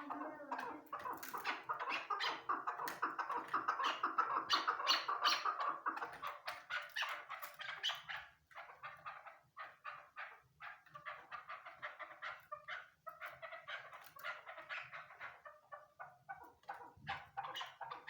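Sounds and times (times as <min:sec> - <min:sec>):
partridge chattering calls: 0:00.0 - 0:16.0.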